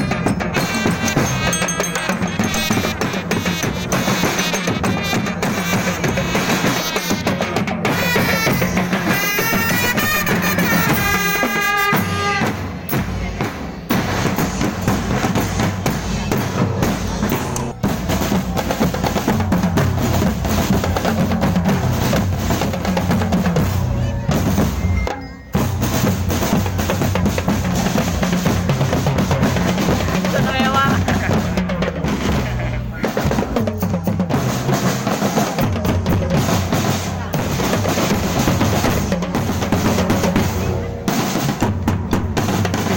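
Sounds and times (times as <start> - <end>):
loud busy drumming: 0.0 - 42.9.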